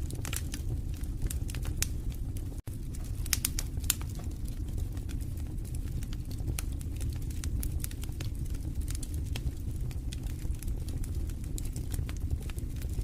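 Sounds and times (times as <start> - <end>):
flames rumbling: 0.0 - 13.0
wood fire crackling and popping: 0.0 - 13.0.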